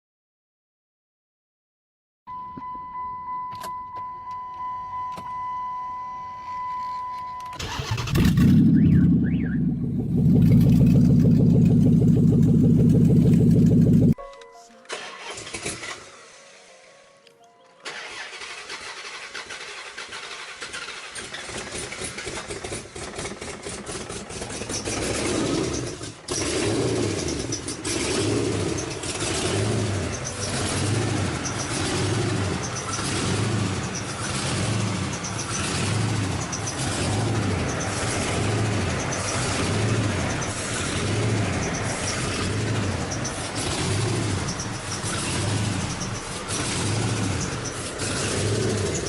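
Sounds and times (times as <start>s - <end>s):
car engine starting and surging: 7.5s - 14.2s, 14.9s - 16.7s, 17.8s - 49.0s.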